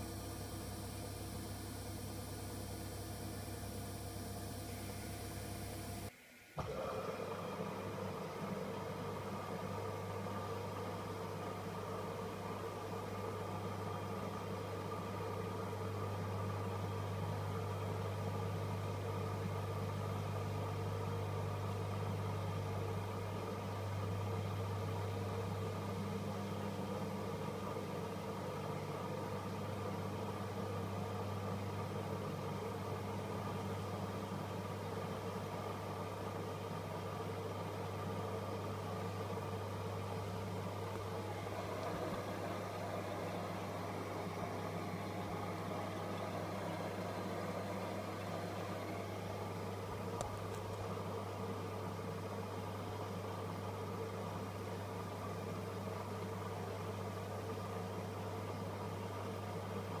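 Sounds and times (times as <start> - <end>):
washing machine motor hum: 0.0 - 60.0.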